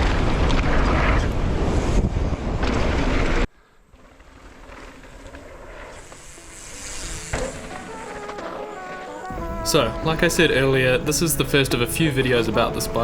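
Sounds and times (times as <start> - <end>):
bike tyre and trail noise: 0.0 - 13.0.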